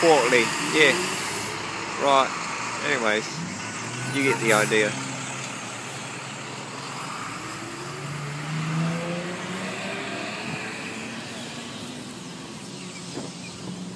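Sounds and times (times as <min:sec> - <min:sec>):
road traffic passing: 0:00.0 - 0:13.9
vehicle engine accelerating: 0:00.0 - 0:13.9.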